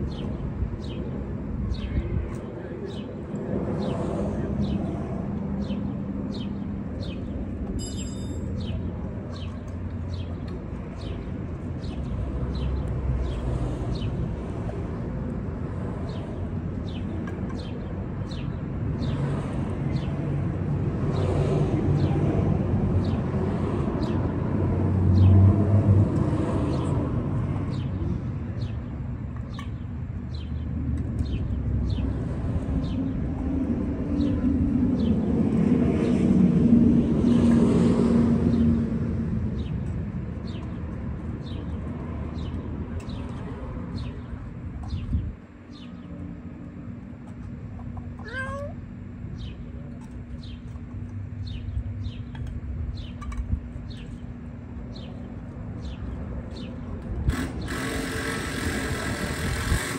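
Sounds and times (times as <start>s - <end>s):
low traffic rumble: 0.0s - 59.9s.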